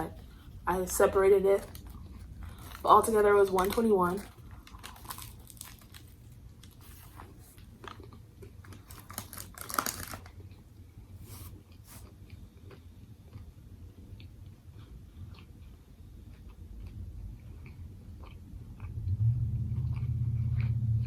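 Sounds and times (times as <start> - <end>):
chewing crunchy food: 0.0 - 19.0, 19.6 - 21.0.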